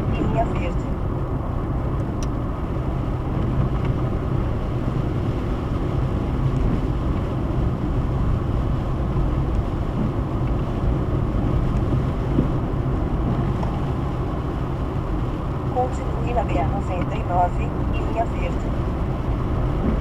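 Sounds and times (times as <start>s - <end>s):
car driving at highway speed: 0.0s - 20.0s.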